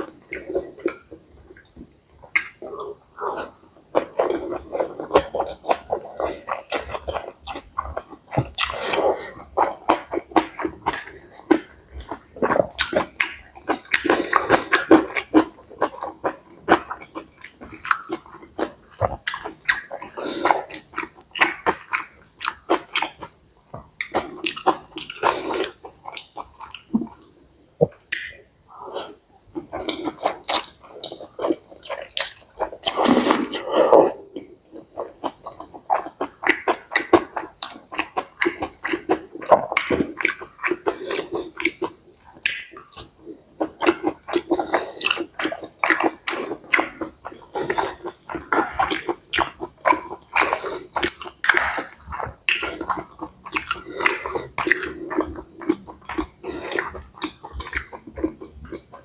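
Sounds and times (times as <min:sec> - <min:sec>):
wet chewing: 0:00.0 - 0:59.0.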